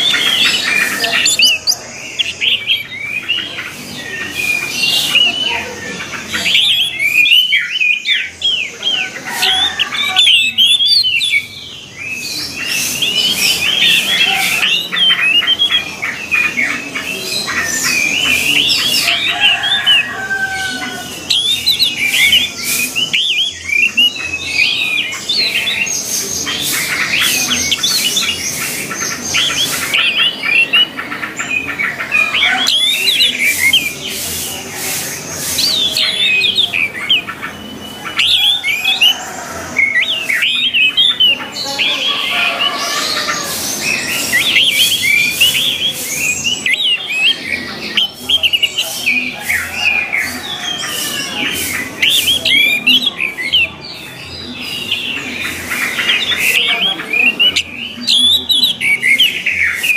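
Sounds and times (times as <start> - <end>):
thrush singing: 0.0 - 59.9.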